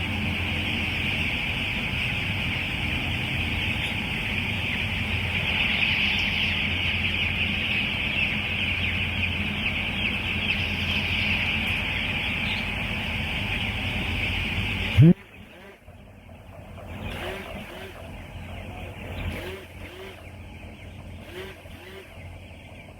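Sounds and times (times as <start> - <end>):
chicks chirping: 0.0 - 22.9
steady low hum: 0.0 - 22.9.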